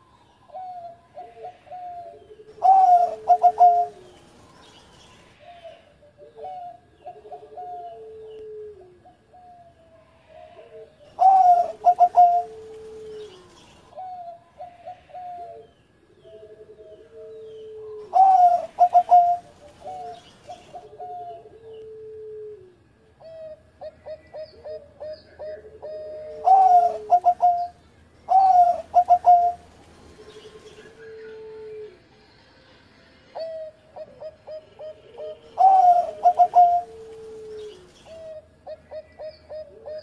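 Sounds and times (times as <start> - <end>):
dove cooing: 0.0 - 4.2, 5.3 - 9.7, 10.4 - 32.1, 33.4 - 40.0.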